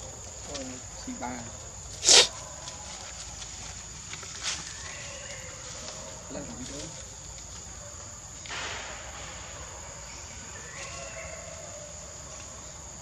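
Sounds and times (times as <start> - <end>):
insects droning: 0.0 - 13.0
rustling hiss: 0.0 - 13.0.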